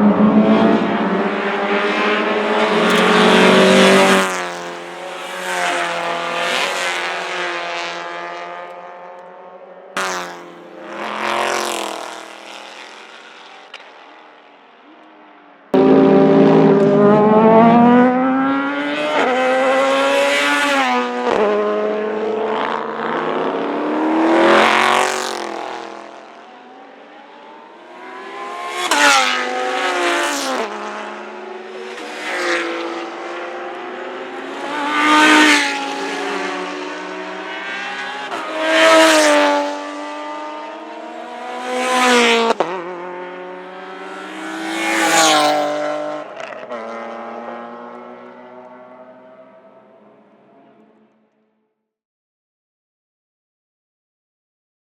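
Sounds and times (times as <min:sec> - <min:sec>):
race cars passing at full throttle: 0:00.0 - 0:51.3.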